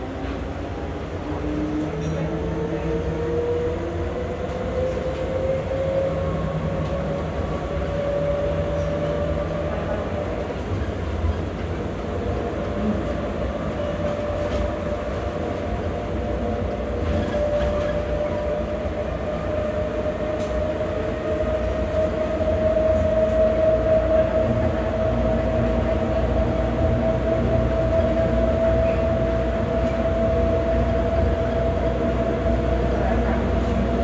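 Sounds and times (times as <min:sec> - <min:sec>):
train car rumble and whine: 0:00.0 - 0:34.0.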